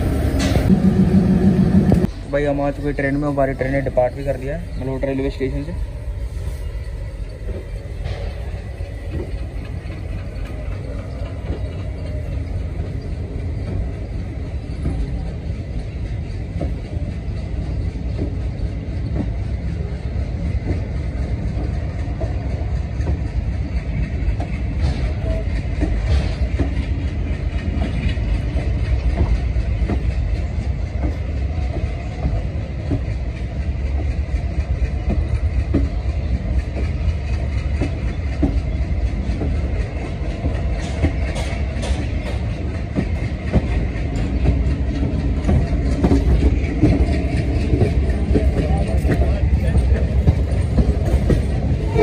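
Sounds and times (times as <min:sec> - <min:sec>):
train rumble: 0:00.0 - 0:52.0
wheels clicking over rail joints: 0:07.0 - 0:52.0.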